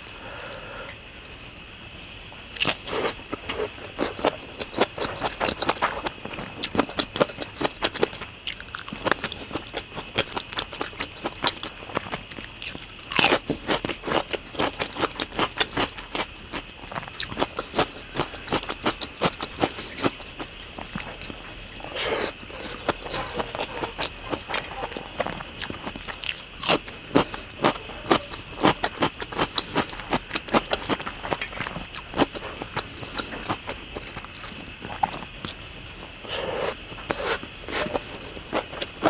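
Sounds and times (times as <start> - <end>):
crickets trilling: 0.0 - 39.0
wet chewing and mouth clicks: 2.5 - 39.0.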